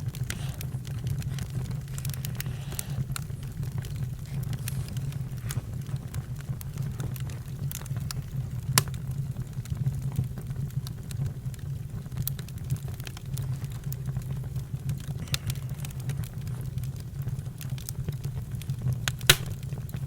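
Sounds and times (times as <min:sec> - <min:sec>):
campfire pops and snaps: 0:00.0 - 0:20.0
low rumble of burning: 0:00.0 - 0:20.0.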